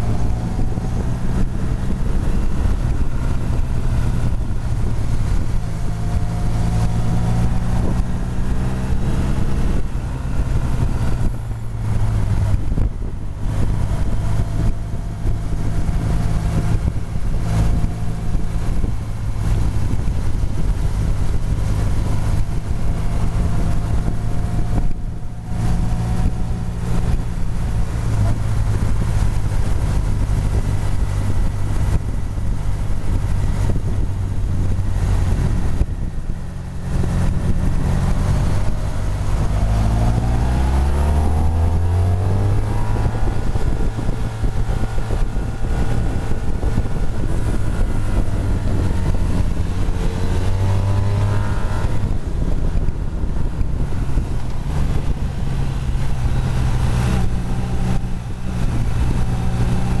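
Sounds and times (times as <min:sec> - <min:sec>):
motorcycle engine accelerating: 0:00.0 - 1:00.0
wind noise on microphone: 0:00.0 - 1:00.0.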